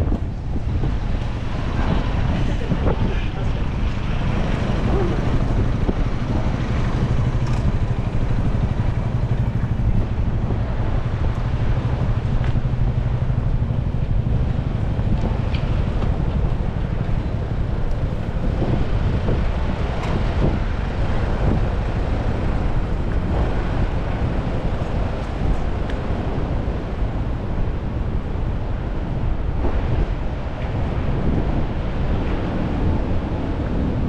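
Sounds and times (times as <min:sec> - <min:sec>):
traffic on wet street: 0:00.0 - 0:34.0
wind rumbling on microphone: 0:00.0 - 0:34.0.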